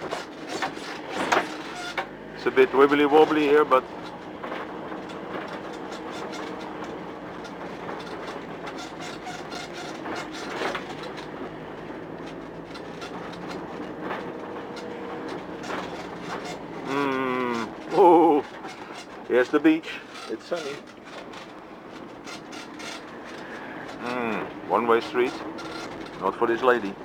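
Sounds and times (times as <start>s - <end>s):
knocks and rattles: 0.0s - 2.2s, 3.2s - 19.5s, 20.1s - 27.0s
vehicle engine running: 0.0s - 27.0s.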